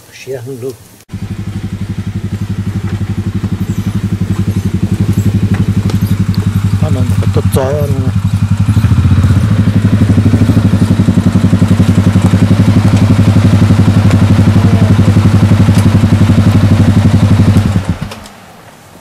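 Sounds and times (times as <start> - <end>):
atv engine idling: 1.1 - 18.4.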